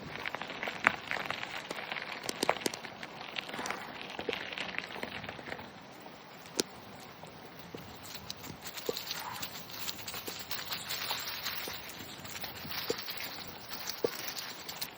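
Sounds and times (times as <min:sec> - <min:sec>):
bicycle clicks and rattles: 0:00.0 - 0:14.9
gravel crackling under bicycle tyres: 0:00.0 - 0:14.9.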